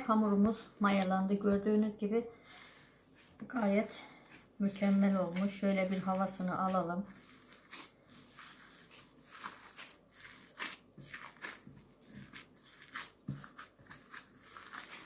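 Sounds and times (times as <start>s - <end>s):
dough squishing and tearing: 2.6s - 15.0s.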